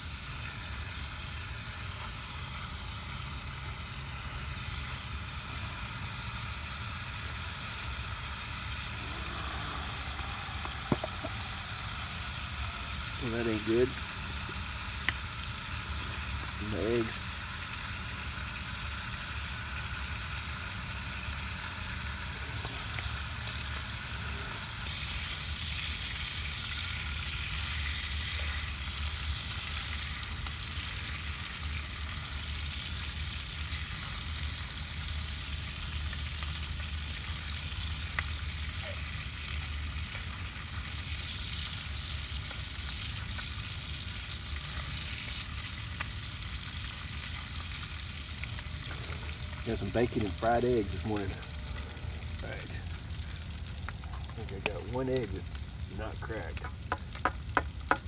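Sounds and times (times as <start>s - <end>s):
bacon and eggs sizzling in pan: 0.0s - 58.0s.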